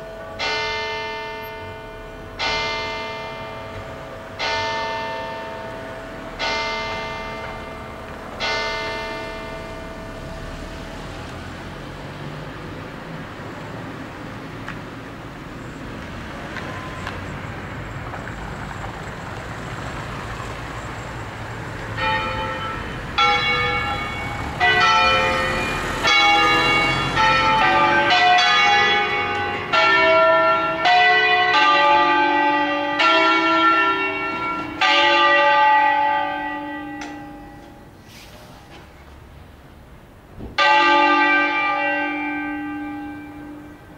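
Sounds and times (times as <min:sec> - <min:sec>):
church bells ringing: 0:00.0 - 0:11.7, 0:15.3 - 0:17.6, 0:19.9 - 0:38.0, 0:40.6 - 0:43.9
background noise: 0:00.0 - 0:43.9.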